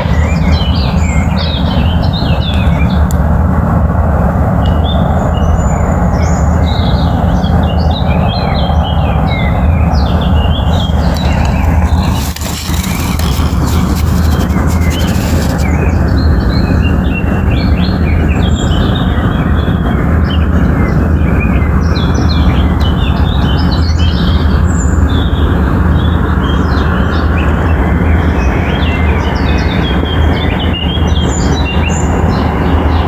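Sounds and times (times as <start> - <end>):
small birds chirping: 0.0 - 3.1, 4.6 - 33.0
steady low rumble: 0.0 - 33.0.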